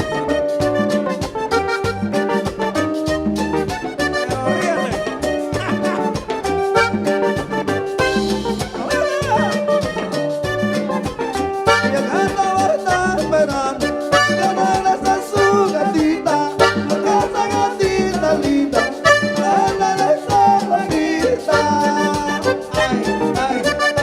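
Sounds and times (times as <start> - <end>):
accordion melody: 0.0 - 24.0
drums and bass beat: 0.0 - 24.0.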